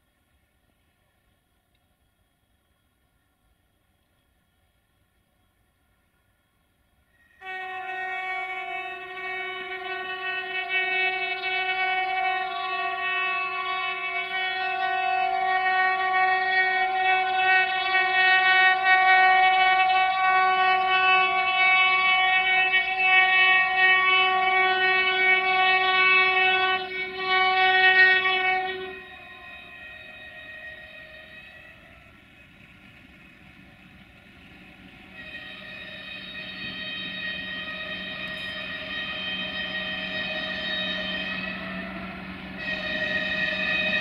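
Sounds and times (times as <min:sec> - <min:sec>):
locomotive air horn: 0:07.1 - 0:44.0.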